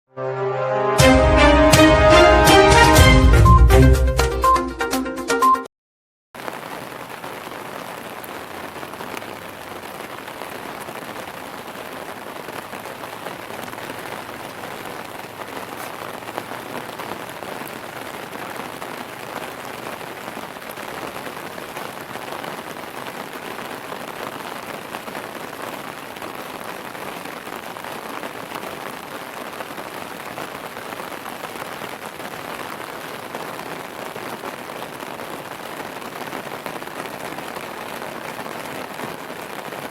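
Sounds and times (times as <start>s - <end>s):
rain on hard surface: 6.4s - 39.9s.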